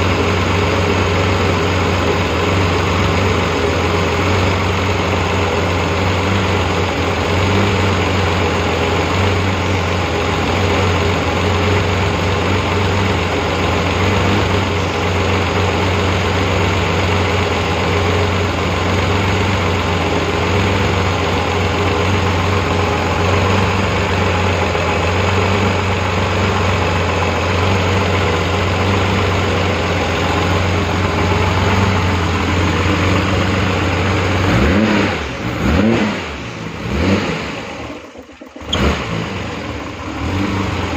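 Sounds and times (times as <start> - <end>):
car engine idling: 0.0 - 40.9
engine revving: 0.0 - 40.9.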